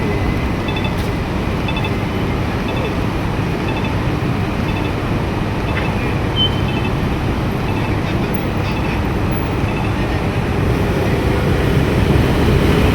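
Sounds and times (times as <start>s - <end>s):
pedestrian crossing signal tones: 0.0s - 12.9s
road traffic engines and tyres: 0.0s - 12.9s.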